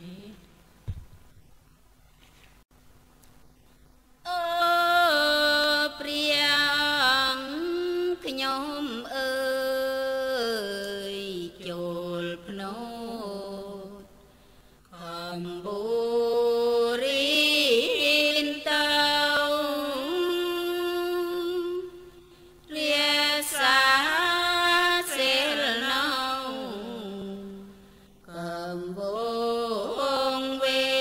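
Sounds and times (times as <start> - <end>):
person chanting: 0.0 - 0.5, 4.3 - 14.2, 14.9 - 31.0.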